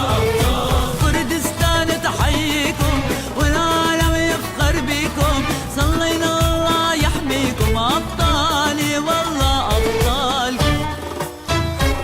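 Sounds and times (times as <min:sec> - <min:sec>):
person singing: 0:00.0 - 0:11.0
backing melody: 0:00.0 - 0:12.0
steady drum beat: 0:00.0 - 0:12.0.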